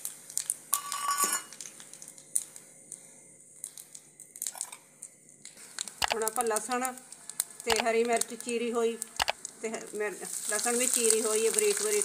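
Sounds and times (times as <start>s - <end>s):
oil crackling: 0.0s - 12.0s
spices frying in hot oil: 0.0s - 12.0s.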